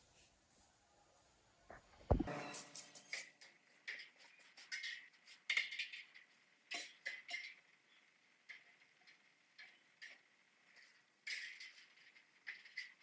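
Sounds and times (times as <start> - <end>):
cable clinking on metal frame: 2.3 - 13.0.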